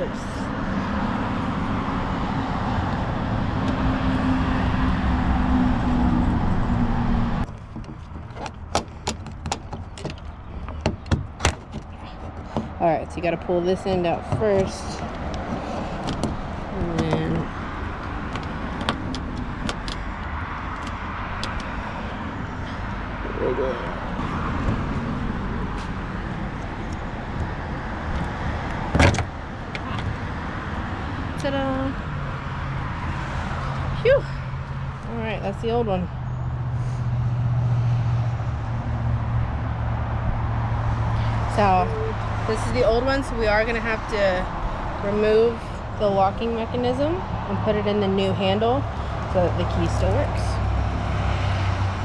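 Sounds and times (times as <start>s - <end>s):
vehicle rumble with low hum: 0.0s - 52.0s.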